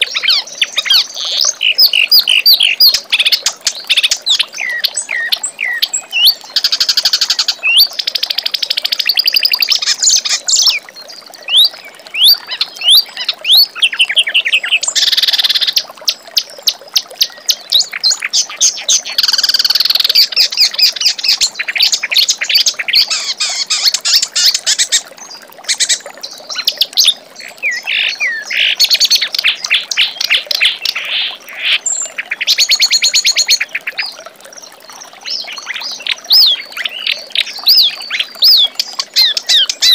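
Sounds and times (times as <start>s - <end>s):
reed warbler singing: 0.0s - 15.8s, 16.4s - 39.9s.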